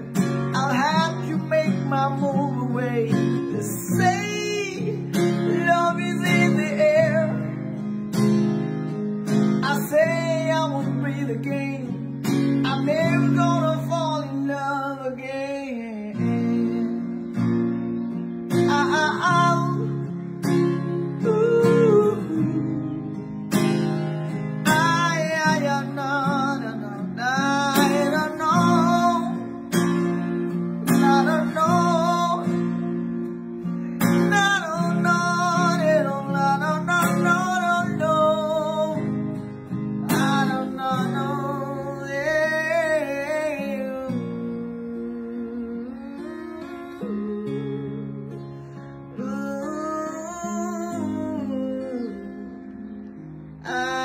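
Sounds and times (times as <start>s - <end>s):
man singing: 0.0s - 54.0s
strummed acoustic guitar: 0.0s - 54.0s.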